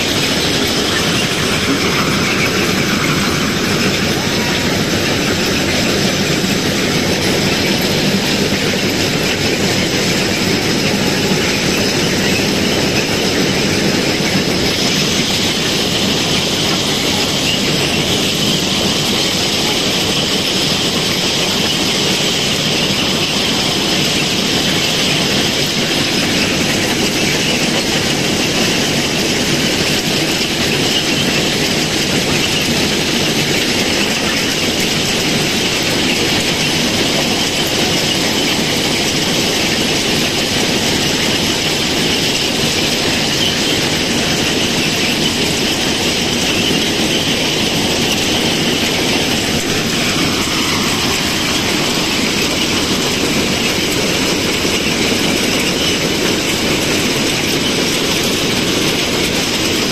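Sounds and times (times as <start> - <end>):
machine mechanical clatter: 0.0 - 59.9.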